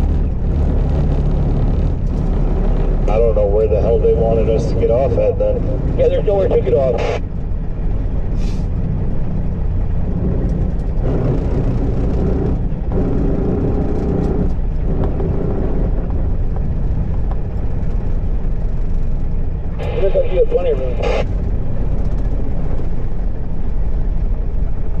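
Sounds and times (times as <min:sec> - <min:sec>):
diesel engine drone: 0:00.0 - 0:25.0
pitched engine hum: 0:00.0 - 0:25.0.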